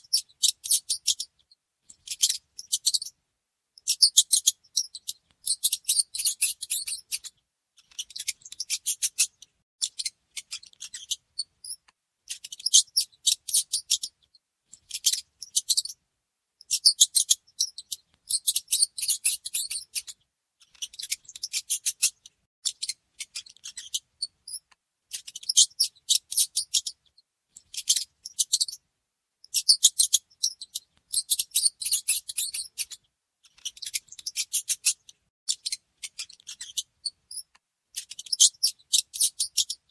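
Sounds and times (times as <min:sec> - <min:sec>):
mouse squeaking: 0:00.0 - 0:03.2, 0:03.8 - 0:16.0, 0:16.6 - 0:28.8, 0:29.4 - 0:39.9.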